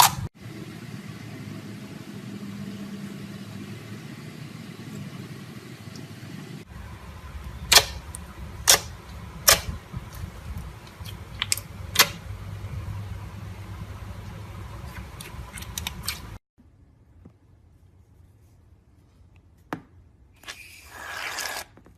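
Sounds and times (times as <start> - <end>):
steady low hum: 0.4 - 20.2.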